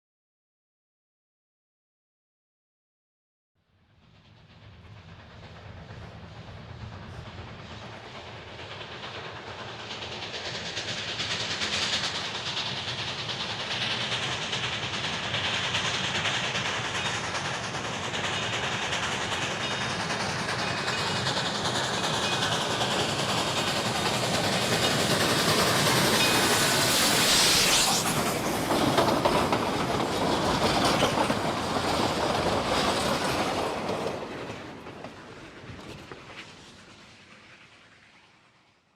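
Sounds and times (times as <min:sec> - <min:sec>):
steam locomotive chugging past: 0:03.7 - 0:38.9.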